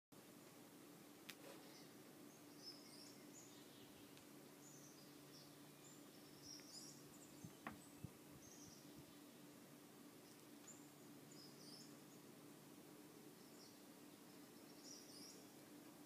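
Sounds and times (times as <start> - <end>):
low steady hum: 0.2 - 16.0.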